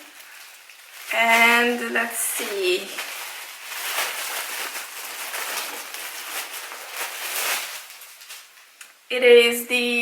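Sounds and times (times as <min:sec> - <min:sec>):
packaging rustling and crinkling: 0:00.0 - 0:08.8.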